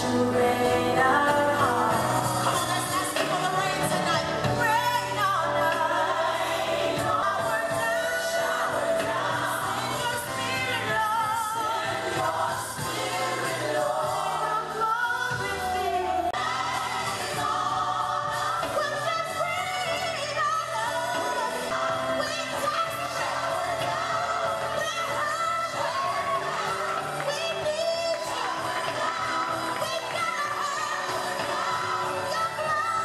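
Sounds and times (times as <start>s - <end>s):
gospel singing: 0.0s - 33.0s.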